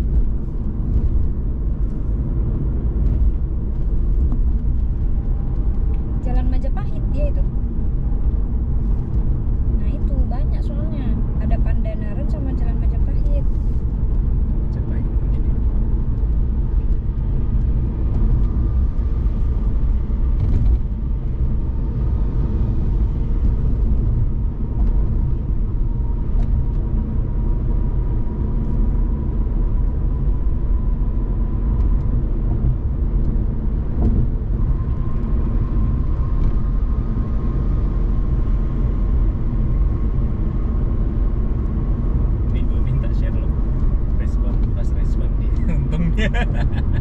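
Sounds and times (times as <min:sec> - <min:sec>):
tyre and engine rumble in car: 0:00.0 - 0:47.0.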